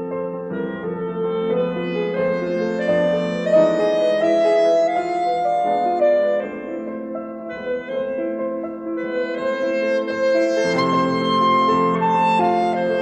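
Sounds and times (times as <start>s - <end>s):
slow instrumental music: 0.1s - 13.0s.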